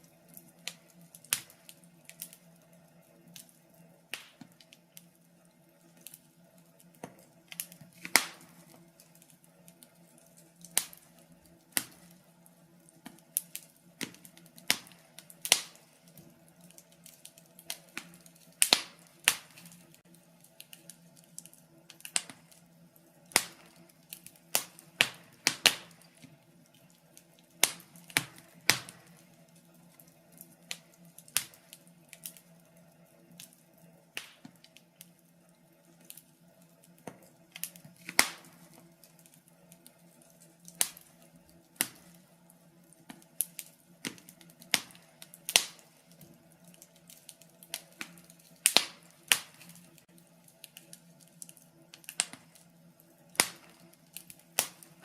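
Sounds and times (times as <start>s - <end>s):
faint steady hum: 0.0s - 55.0s
wood fire crackling and popping: 0.0s - 55.0s.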